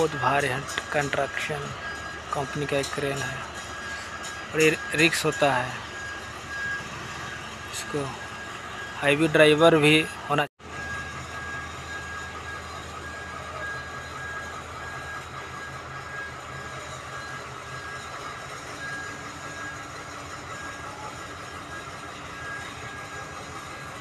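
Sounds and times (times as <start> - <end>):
crane diesel engine running: 0.0 - 24.0
reversing alarm beeping: 0.0 - 24.0.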